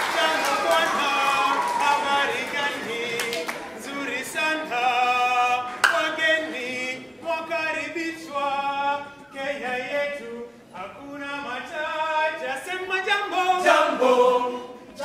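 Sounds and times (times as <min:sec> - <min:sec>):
male choir singing a cappella: 0:00.0 - 0:15.0.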